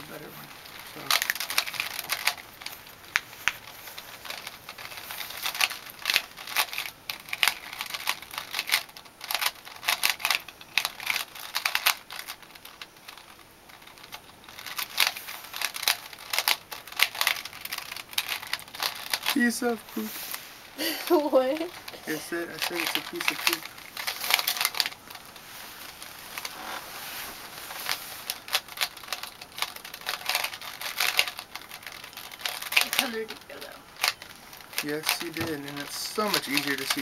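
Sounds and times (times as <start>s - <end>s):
puzzle cube twisting and clicking: 0.6s - 19.8s, 21.6s - 26.6s, 27.9s - 37.0s.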